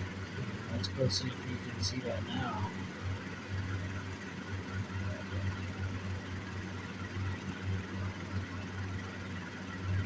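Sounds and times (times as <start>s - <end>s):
low pulsing hum: 0.0s - 10.0s.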